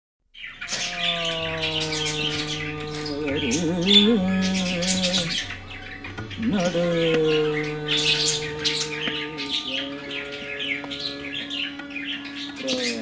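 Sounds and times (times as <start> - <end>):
birds chirping and squawking: 0.4 - 13.0
background music: 0.6 - 13.0.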